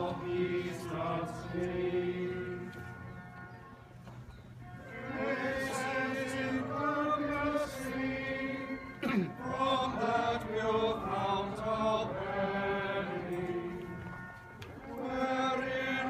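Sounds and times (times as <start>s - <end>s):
group singing a slow hymn: 0.0s - 3.2s, 4.8s - 16.0s.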